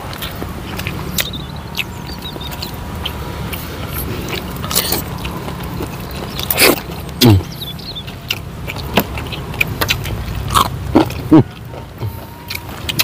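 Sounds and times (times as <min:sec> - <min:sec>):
chewing mouth clicks: 0:00.0 - 0:13.0.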